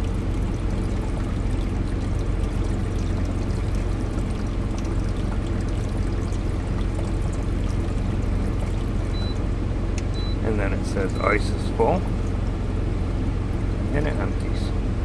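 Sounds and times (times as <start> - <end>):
water pouring: 0.0 - 9.4, 10.8 - 13.9
low motor hum: 0.0 - 15.0.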